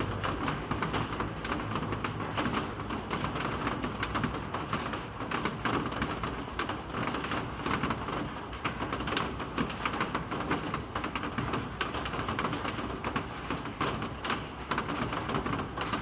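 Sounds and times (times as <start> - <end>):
rain drops tapping on hard surface: 0.0 - 16.0.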